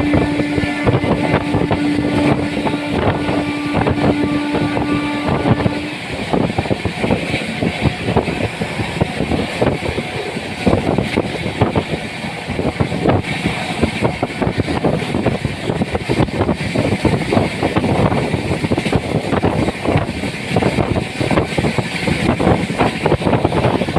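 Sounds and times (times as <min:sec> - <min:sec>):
train rumbling at speed: 0:00.0 - 0:23.9
wind buffeting microphone: 0:00.0 - 0:23.9.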